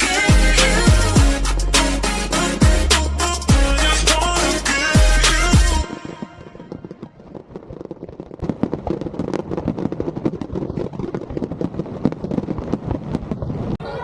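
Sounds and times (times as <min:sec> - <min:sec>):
fireworks crackling: 0:00.0 - 0:14.0.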